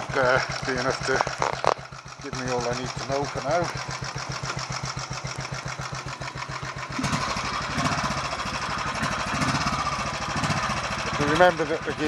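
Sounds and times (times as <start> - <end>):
motorcycle engine idling: 0.0 - 12.0
motorcycle pulling away: 0.0 - 12.0.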